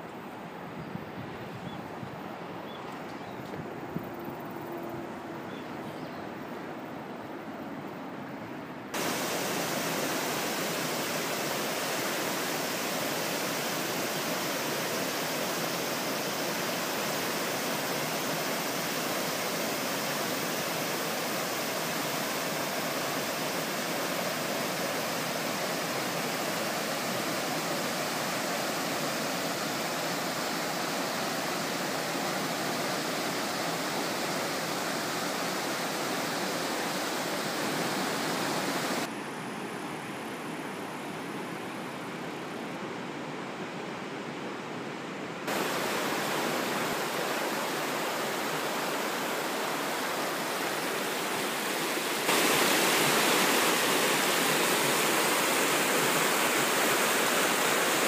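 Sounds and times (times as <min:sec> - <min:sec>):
river rushing over rocks: 0:06.3 - 0:58.0.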